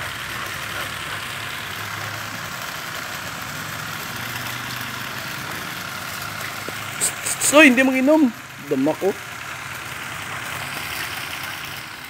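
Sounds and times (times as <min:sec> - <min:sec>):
hose spraying on concrete: 0:00.0 - 0:12.0
motor humming: 0:00.0 - 0:12.0.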